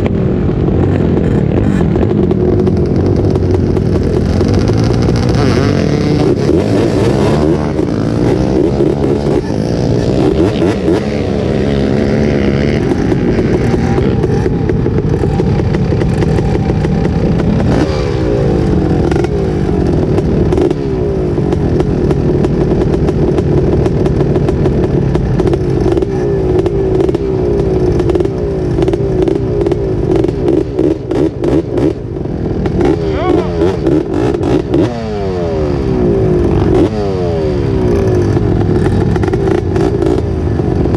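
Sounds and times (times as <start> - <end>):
off-road engine revving: 0.0 - 40.9.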